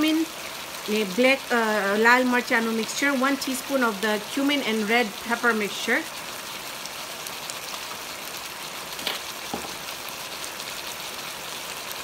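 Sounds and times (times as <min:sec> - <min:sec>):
gravy sizzling and bubbling: 0:00.0 - 0:12.0.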